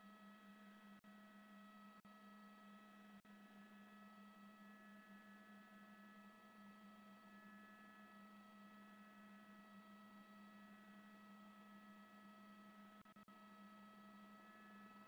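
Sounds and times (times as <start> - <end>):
faint hum of held tones: 0.0 - 15.0.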